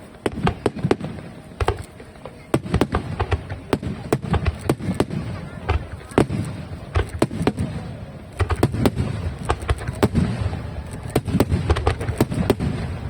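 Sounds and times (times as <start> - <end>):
fireworks bangs and cracks: 0.0 - 13.0.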